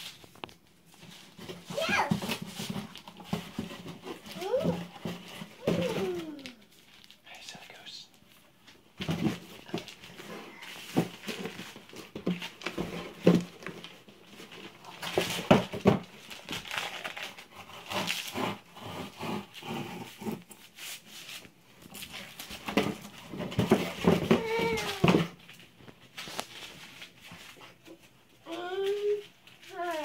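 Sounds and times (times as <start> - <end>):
plastic and foam packaging crinkling: 0.0 - 30.0.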